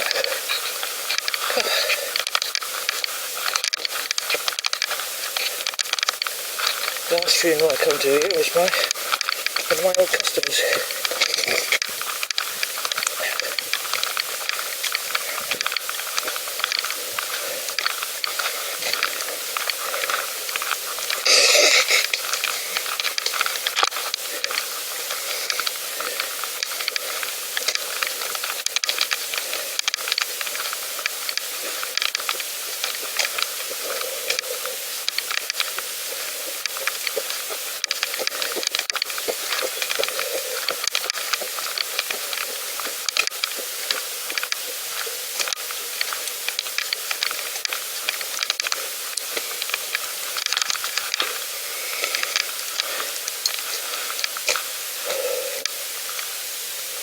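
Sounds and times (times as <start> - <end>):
bicycle riding hiss with crackles: 0.0 - 57.0.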